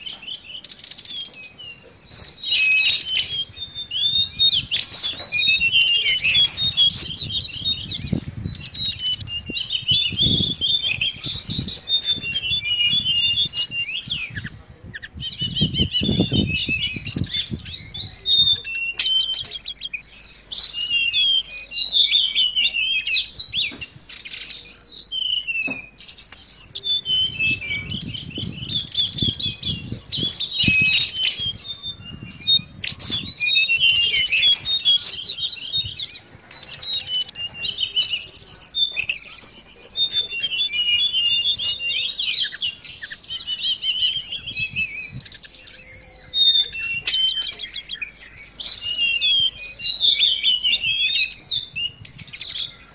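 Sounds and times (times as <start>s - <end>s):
bird twittering song: 0.0s - 52.9s.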